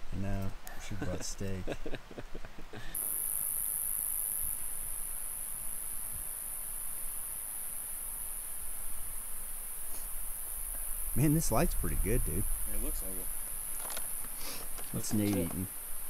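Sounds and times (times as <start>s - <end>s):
insects trilling: 0.7s - 16.0s.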